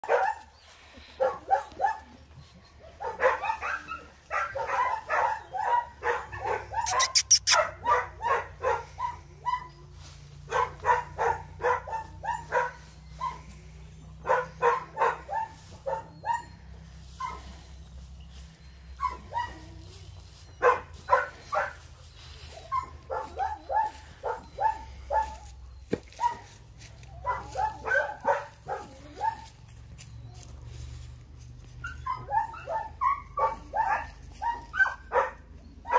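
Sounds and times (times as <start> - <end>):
dog barking: 0.0 - 0.5, 1.2 - 2.2, 2.8 - 13.5, 14.2 - 17.6, 19.0 - 29.6, 31.8 - 35.9.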